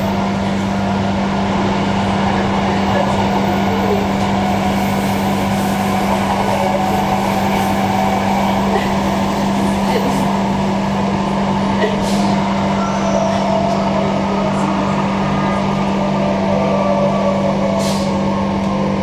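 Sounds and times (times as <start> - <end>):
electric train hum and whine: 0.0 - 19.0
wheels rumbling on rail: 0.0 - 19.0.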